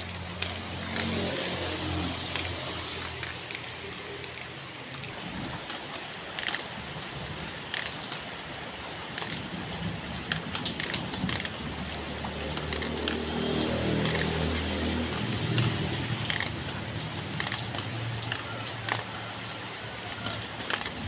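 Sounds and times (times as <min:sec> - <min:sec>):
drops striking leaves: 0:00.0 - 0:21.0
steady rain falling: 0:00.0 - 0:21.0.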